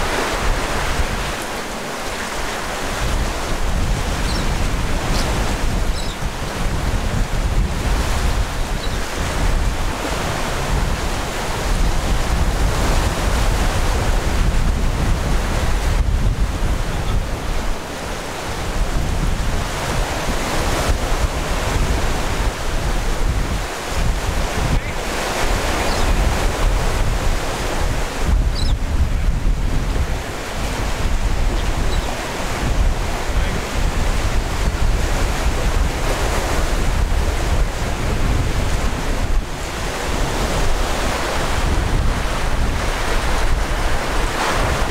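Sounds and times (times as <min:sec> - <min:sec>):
choppy sea waves: 0:00.0 - 0:44.9
wind on microphone: 0:00.0 - 0:44.9.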